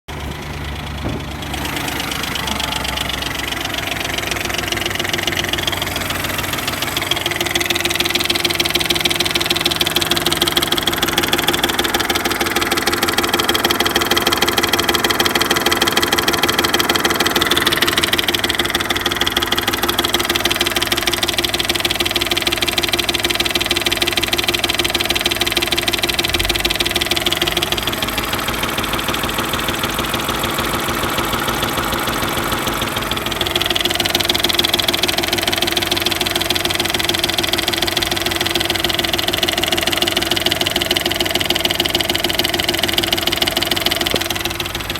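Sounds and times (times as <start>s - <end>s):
engine idling: 0.1s - 44.9s
fast engine knocking: 0.1s - 44.9s.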